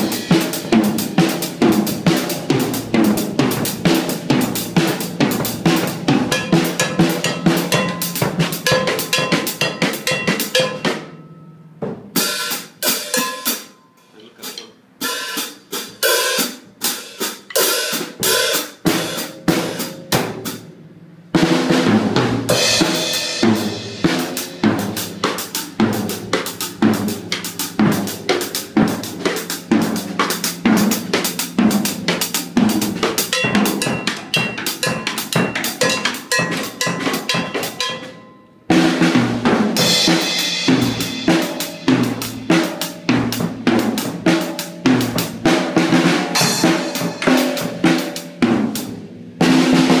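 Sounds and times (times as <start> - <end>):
snare toms and bass drum: 0.0 - 11.2, 15.0 - 50.0.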